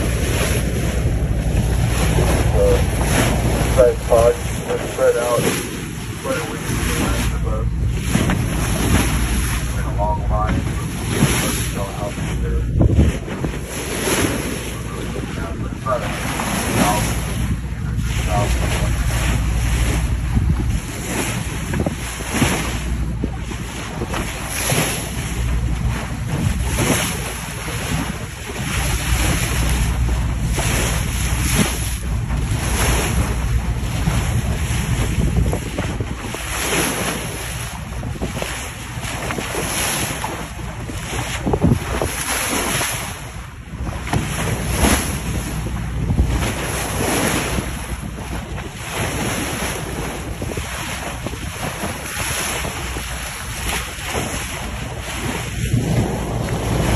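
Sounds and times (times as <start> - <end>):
sea water rushing along hull: 0.0 - 56.9
wind buffeting microphone: 0.0 - 56.9.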